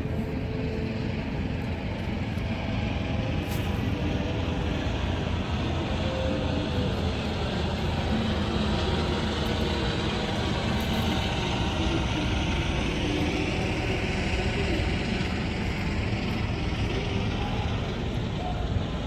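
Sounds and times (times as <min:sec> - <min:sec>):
faint voices: 0:00.0 - 0:19.0.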